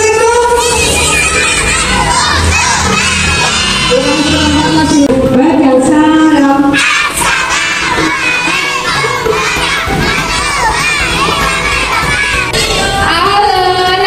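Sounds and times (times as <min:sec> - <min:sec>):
children shouting and cheering: 0:00.0 - 0:05.1, 0:06.7 - 0:14.0.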